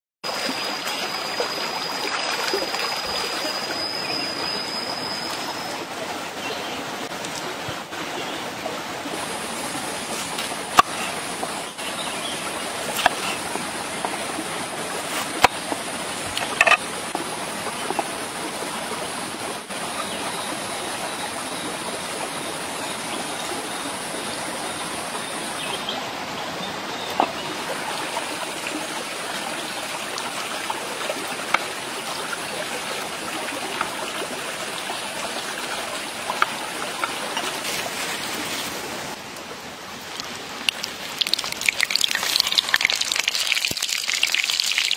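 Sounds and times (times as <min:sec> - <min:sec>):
stream running over rocks: 0:00.2 - 0:44.9.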